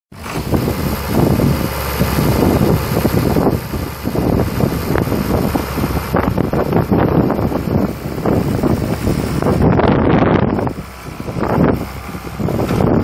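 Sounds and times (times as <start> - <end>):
wind buffeting microphone: 0.2 - 13.0.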